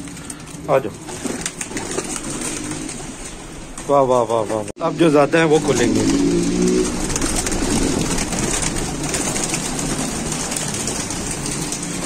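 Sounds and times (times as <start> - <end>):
pigeons cooing: 0.0 - 4.7, 5.6 - 12.0
pigeons flapping wings: 0.0 - 4.7, 5.5 - 12.0.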